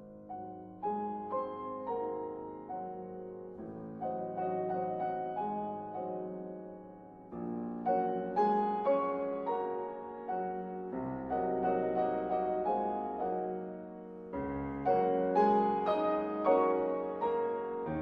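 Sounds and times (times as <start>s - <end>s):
slow solo piano piece: 0.0s - 18.0s.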